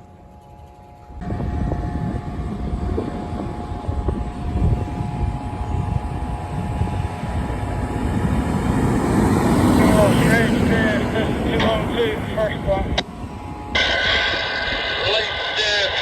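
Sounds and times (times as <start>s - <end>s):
road noise: 0.0s - 16.0s
truck engine rumble: 0.0s - 16.0s.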